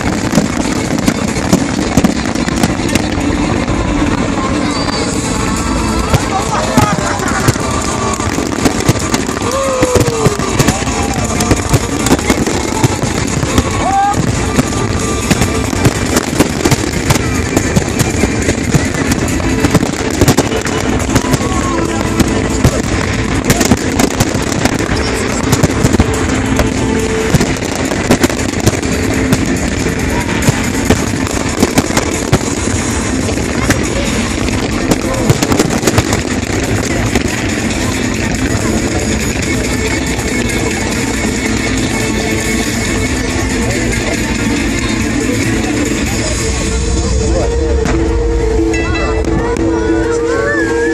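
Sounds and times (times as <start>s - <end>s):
fireworks bangs and crackling: 0.0s - 50.9s.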